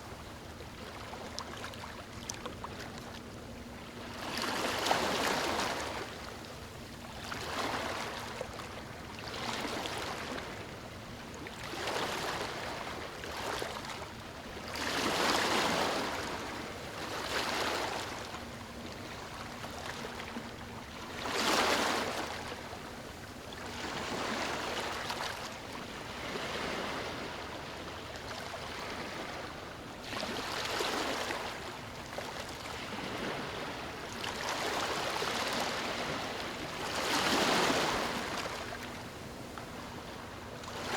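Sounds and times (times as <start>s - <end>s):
ocean waves breaking on shore: 3.9s - 40.9s.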